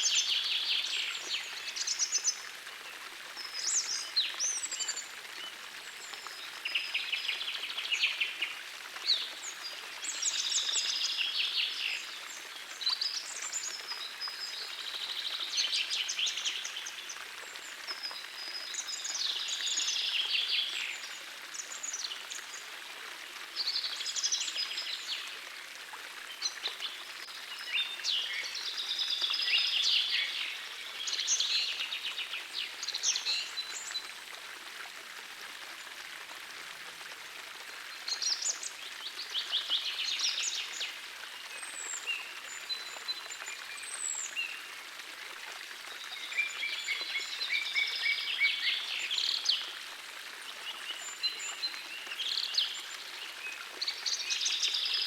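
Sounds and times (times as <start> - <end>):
forest stream rushing: 0.0 - 55.0.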